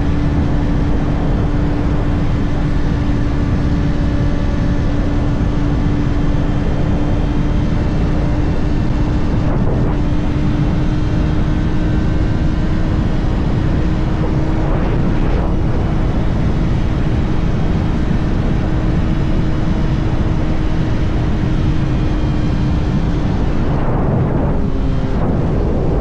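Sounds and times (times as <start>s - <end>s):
motorcycle engine cruising: 0.0s - 26.0s
wind rumble: 0.0s - 26.0s.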